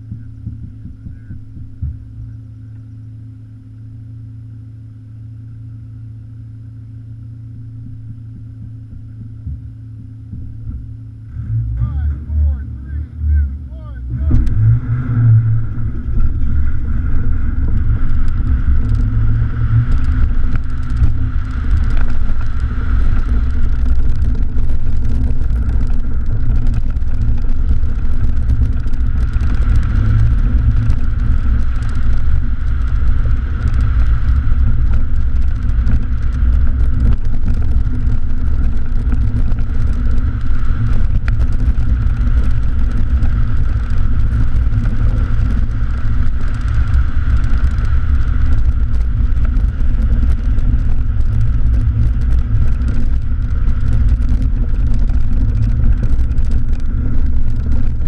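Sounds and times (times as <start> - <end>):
car engine running under load: 0.0 - 58.0.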